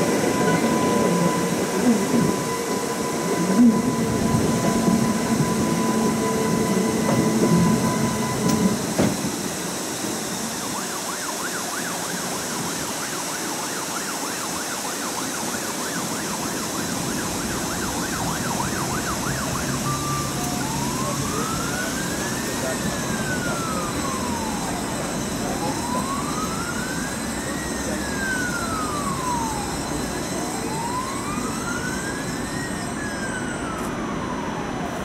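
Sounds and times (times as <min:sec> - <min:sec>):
siren yelping: 0:00.0 - 0:09.0, 0:10.6 - 0:35.0
rising whine: 0:00.0 - 0:11.2, 0:16.0 - 0:35.0
tram running on track: 0:00.0 - 0:35.0.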